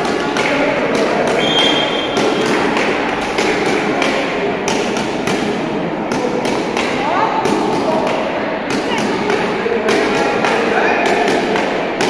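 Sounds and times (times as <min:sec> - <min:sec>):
echoing voices in a hall: 0:00.0 - 0:12.0.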